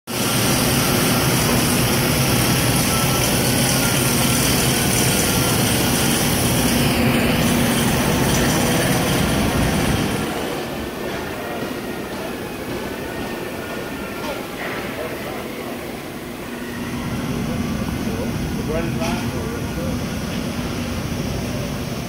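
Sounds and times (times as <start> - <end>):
workshop machinery din: 0.1 - 22.0.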